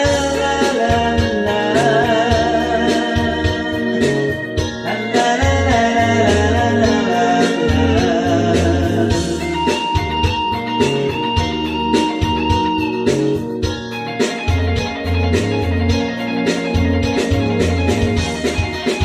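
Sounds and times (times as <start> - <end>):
instrumental pop music: 0.0 - 19.0.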